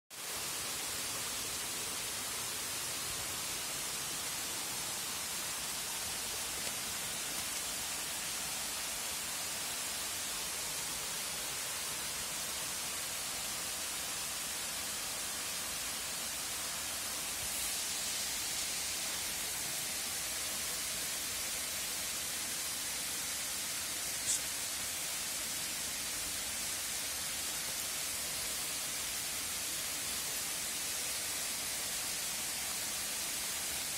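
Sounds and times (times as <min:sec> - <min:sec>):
steady high hiss: 0:00.1 - 0:33.9.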